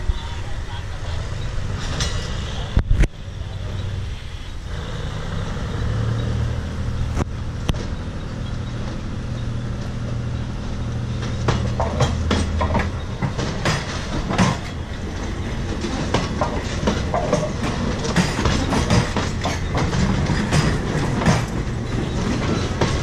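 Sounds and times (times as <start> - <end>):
diesel locomotive drone: 0.0 - 23.0
passenger coaches rolling past: 0.0 - 23.0
wheels clattering over rail joints: 1.3 - 4.1, 4.7 - 23.0.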